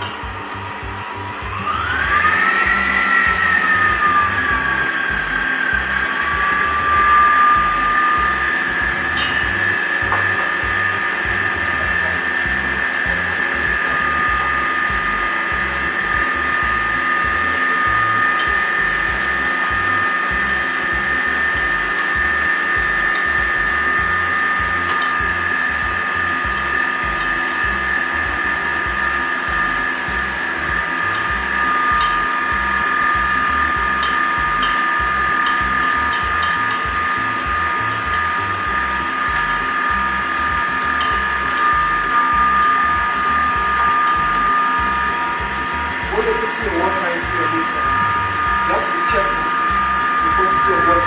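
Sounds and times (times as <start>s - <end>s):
stand mixer motor whining: 0.0s - 51.0s.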